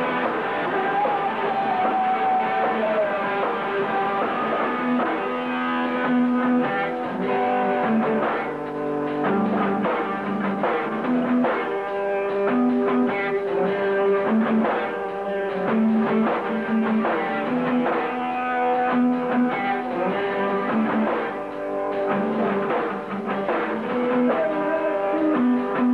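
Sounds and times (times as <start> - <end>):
drums: 0.0 - 25.9
electric guitar notes: 0.0 - 25.9.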